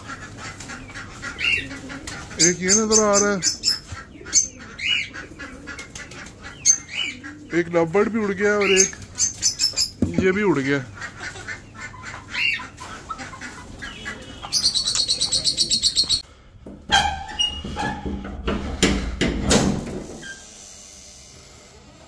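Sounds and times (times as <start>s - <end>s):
caged birds chirping and squawking: 0.0s - 22.0s.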